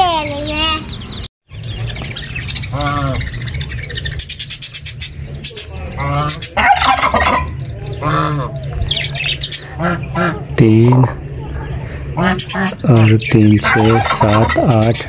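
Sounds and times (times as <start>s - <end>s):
chickens calling: 0.0s - 15.0s
chicks chirping: 0.0s - 15.0s.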